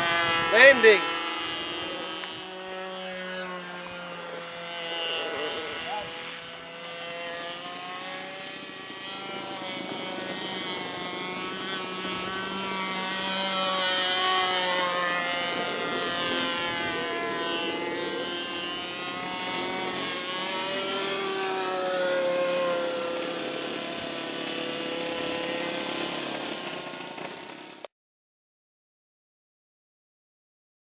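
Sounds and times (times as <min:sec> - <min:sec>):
model airplane engine: 0:00.0 - 0:27.9.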